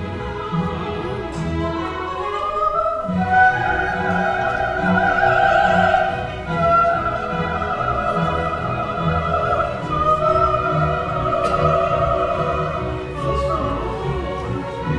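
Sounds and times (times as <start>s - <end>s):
orchestral accompaniment: 0.0s - 14.9s
soprano singing: 0.0s - 14.9s.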